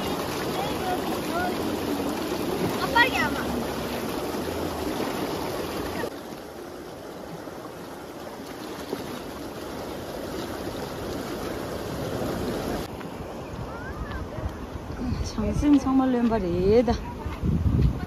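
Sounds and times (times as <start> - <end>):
stream water rushing: 0.0 - 17.2.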